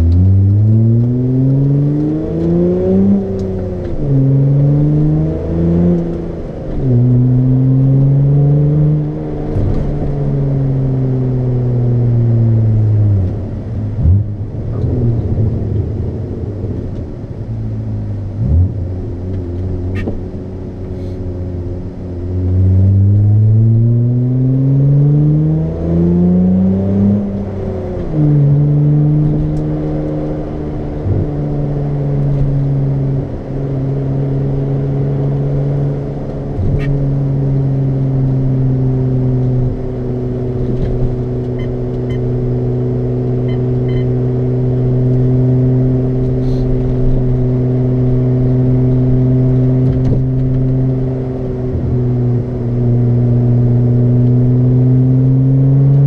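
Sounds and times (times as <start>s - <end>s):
car exhaust while accelerating: 0.0s - 56.0s.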